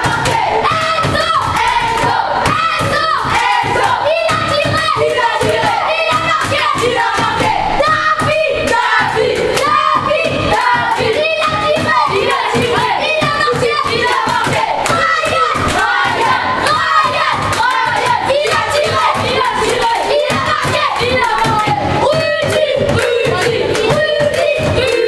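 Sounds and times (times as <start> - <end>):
boys chanting and singing: 0.0 - 25.0
hand claps and slaps: 0.0 - 25.0.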